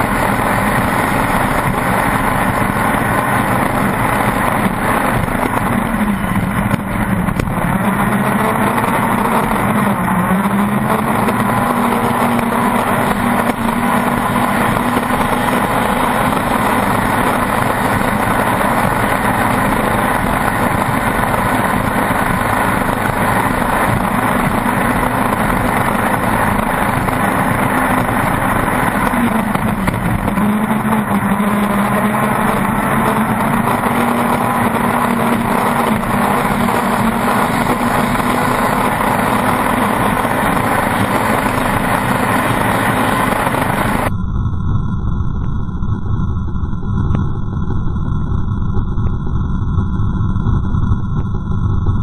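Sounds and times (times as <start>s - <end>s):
boat engine running hard: 0.0s - 44.1s
rushing water: 0.0s - 44.1s
rushing wind: 0.0s - 44.2s.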